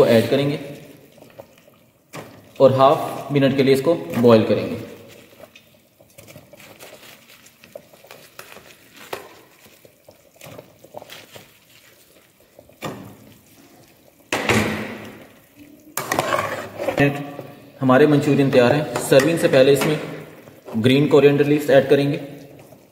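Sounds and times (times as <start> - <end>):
gravy bubbling in a pot: 0.0 - 22.9
ladle stirring boiling gravy: 0.0 - 22.9.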